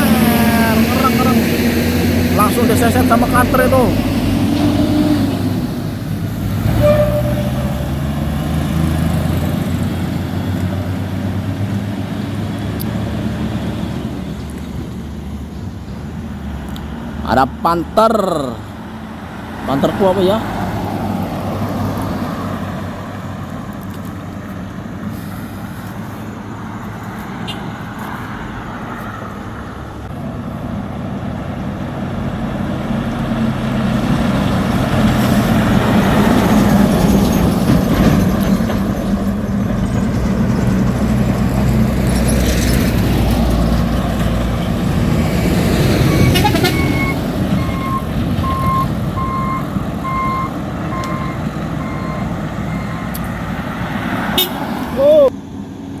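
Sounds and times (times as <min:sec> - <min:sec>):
diesel truck engine labouring: 0:00.0 - 0:26.8, 0:28.4 - 0:56.0.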